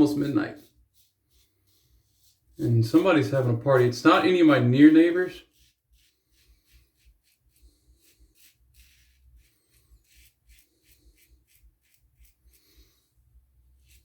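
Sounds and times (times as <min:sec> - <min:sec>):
razor scratching stubble: 0:00.0 - 0:13.0, 0:13.7 - 0:14.0.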